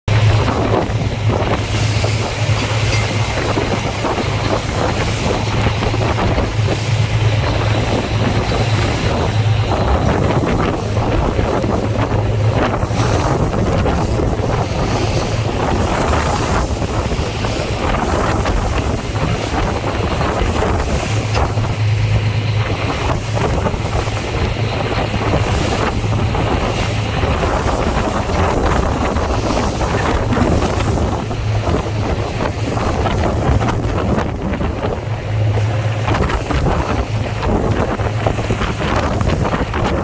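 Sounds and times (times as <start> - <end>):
water rushing along hull: 0.0 - 40.0
boat engine humming: 0.1 - 40.0
wind buffeting microphone: 0.1 - 40.0.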